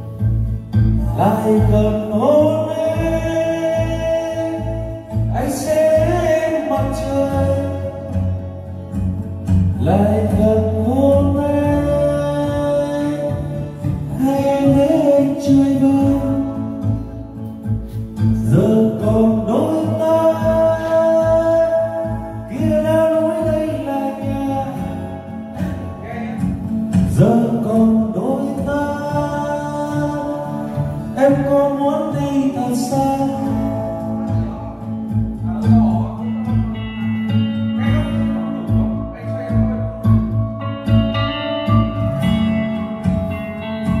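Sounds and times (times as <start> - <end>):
person singing: 0.0 - 44.0
steady bass beat: 0.0 - 44.0.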